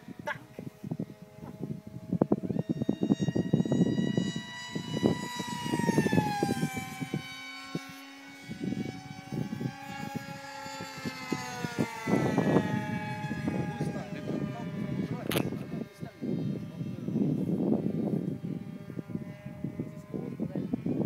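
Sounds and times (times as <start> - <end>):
model jet motor whining: 0.0 - 21.0.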